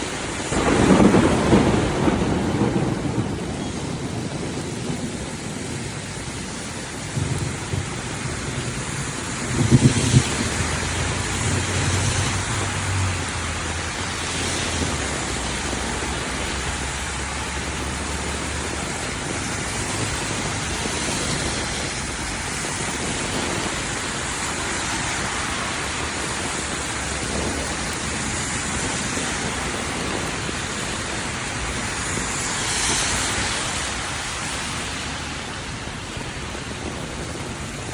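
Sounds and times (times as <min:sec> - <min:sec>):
heavy rain: 0:00.0 - 0:37.9
low thunder rumble: 0:00.0 - 0:37.9.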